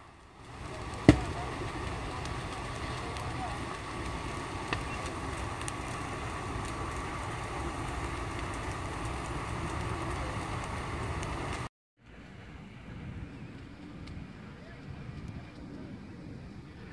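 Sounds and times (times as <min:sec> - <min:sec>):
fire popping: 0:00.0 - 0:11.7, 0:12.9 - 0:16.9
low engine-like rumble: 0:00.0 - 0:16.9.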